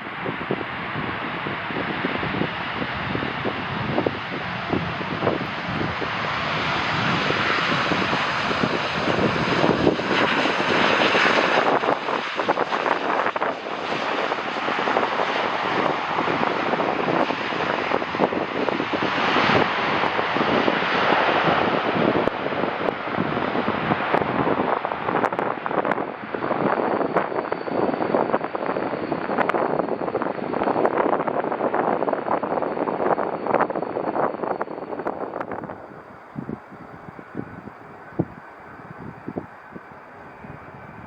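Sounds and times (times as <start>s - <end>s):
jet engines rushing: 0.0s - 41.0s
wind buffeting microphone: 0.0s - 41.0s.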